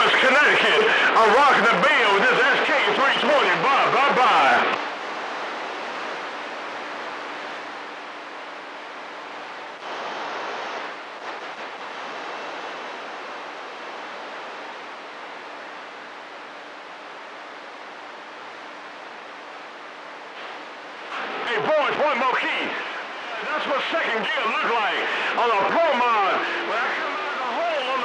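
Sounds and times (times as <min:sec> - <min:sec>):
burst of static: 0:00.0 - 0:28.0
radio static hiss: 0:00.0 - 0:28.0.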